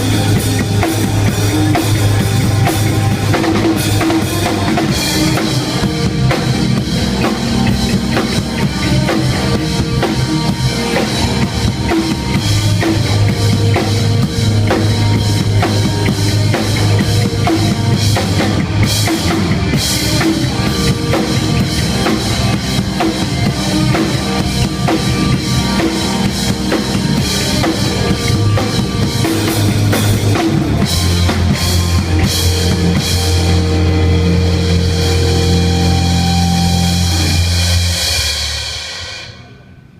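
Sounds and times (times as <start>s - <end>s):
drum kit playing fast: 0.0s - 39.6s
sustained low notes: 0.0s - 39.9s.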